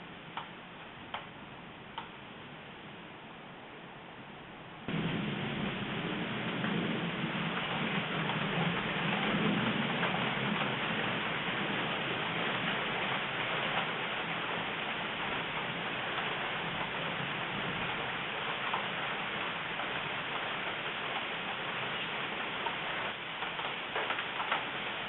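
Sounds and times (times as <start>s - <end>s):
steady rain falling: 0.0s - 25.0s
low thunder rumble: 4.9s - 25.0s.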